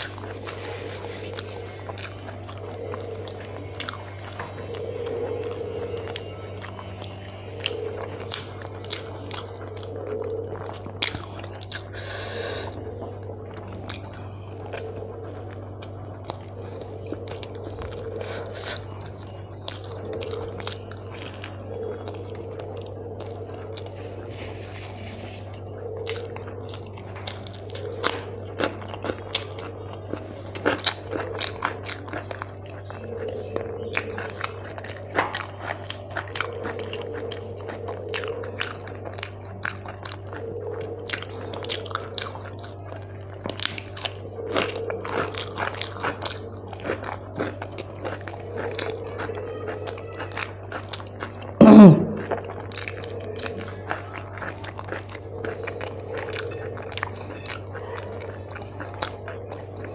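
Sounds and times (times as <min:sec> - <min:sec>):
low steady hum: 0:00.0 - 0:59.9
person chewing crunchy food: 0:00.0 - 0:59.9.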